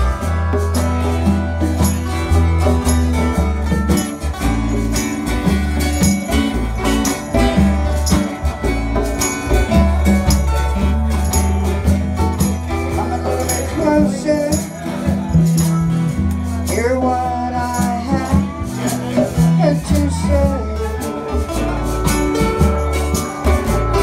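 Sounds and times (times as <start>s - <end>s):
bass line: 0.0s - 24.0s
jingling percussion beat: 0.0s - 24.0s
plucked guitar: 0.0s - 24.0s.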